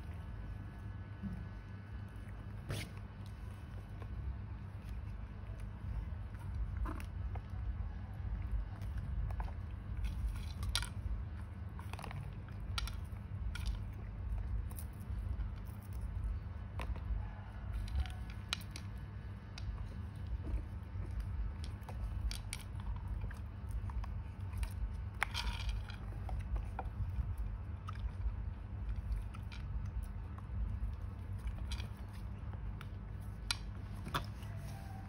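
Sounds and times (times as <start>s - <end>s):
low hum: 0.0s - 35.0s
seeds clicking and crunching: 0.0s - 35.0s.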